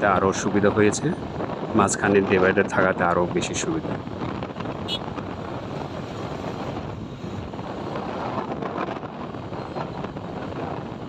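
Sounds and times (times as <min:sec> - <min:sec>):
road and traffic noise: 0:00.0 - 0:11.0
wind rushing over microphone: 0:00.0 - 0:11.0.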